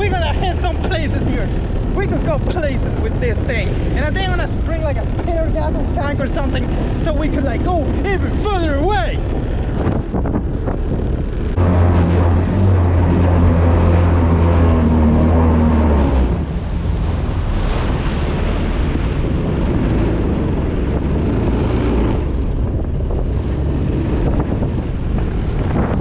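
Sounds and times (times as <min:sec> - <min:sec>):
engine running steadily: 0:00.0 - 0:26.0
wind buffeting microphone: 0:00.0 - 0:26.0.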